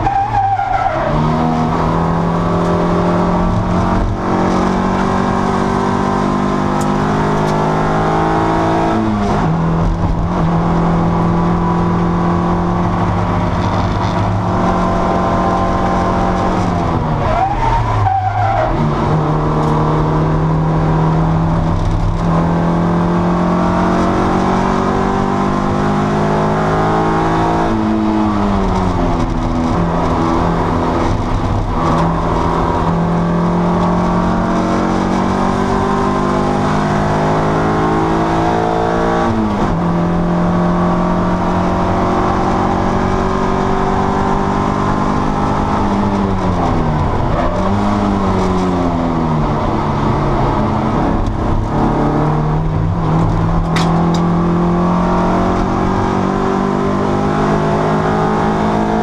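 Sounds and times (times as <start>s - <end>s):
racing car engine: 0.0s - 59.0s.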